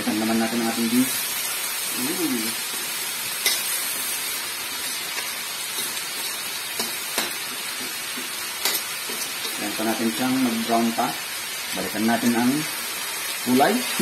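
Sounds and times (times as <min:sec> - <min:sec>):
ground beef sizzling in a wok: 0:00.0 - 0:14.0.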